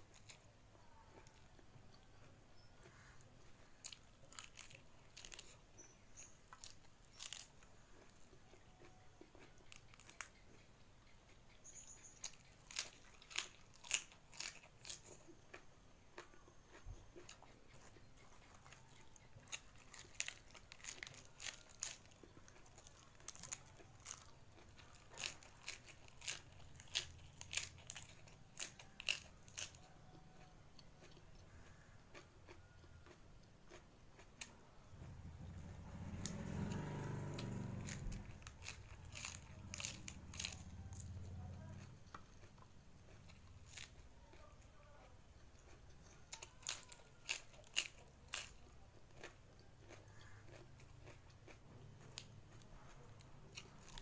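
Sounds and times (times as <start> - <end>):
person chewing crisp crunches: 0.0 - 54.0.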